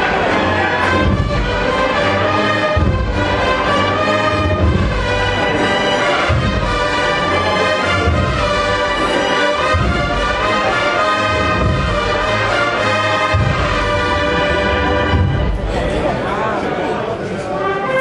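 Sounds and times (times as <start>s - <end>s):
brass and drum band marching: 0.0s - 16.1s, 17.6s - 18.0s.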